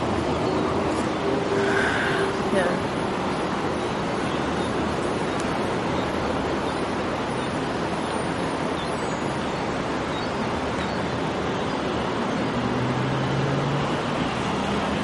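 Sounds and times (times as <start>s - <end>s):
city traffic noise: 0.0s - 15.0s.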